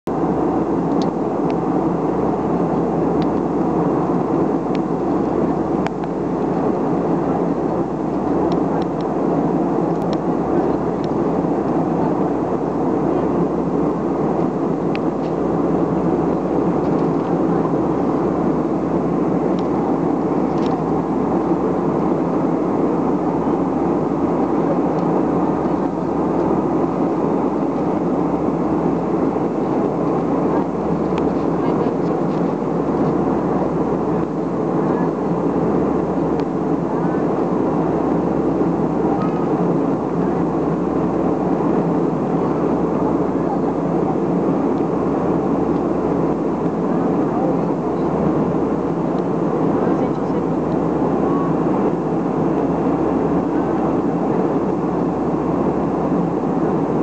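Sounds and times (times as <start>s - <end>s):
airliner engine drone in cabin: 0.1s - 57.0s.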